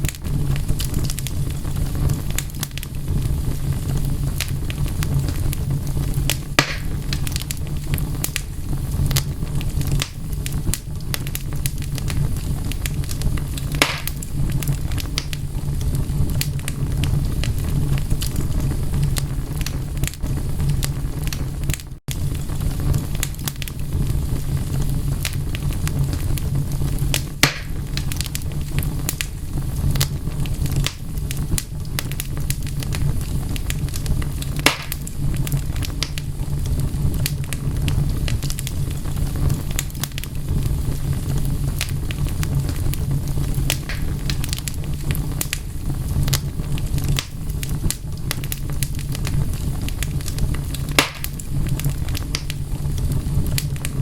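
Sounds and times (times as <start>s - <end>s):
fire popping and snapping: 0.0s - 54.0s
flames rumbling: 0.0s - 54.0s.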